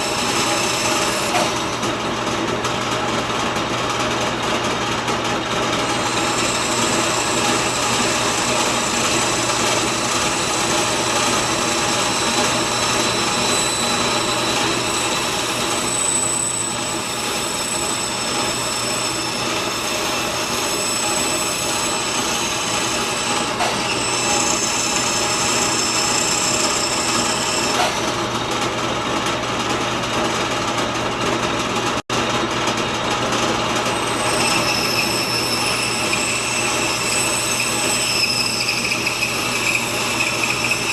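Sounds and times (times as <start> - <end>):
band saw cutting wood: 0.0 - 3.0, 5.3 - 28.8, 33.2 - 40.9.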